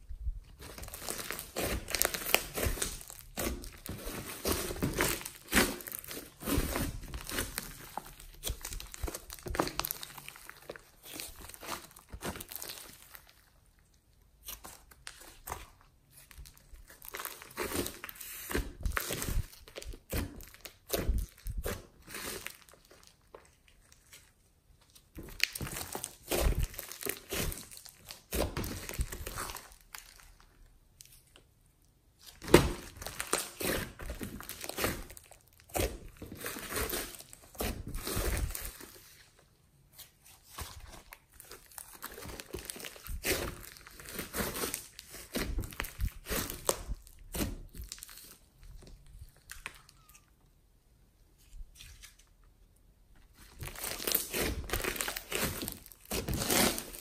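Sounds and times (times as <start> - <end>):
slime squishing and crackling: 0.0 - 50.3, 53.3 - 57.0.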